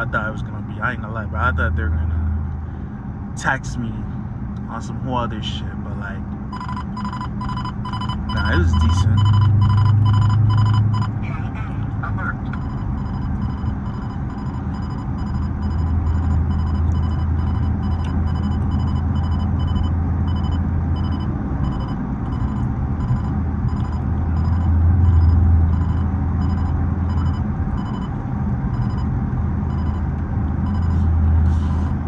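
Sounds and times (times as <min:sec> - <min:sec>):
car engine droning low: 0:00.0 - 0:32.0.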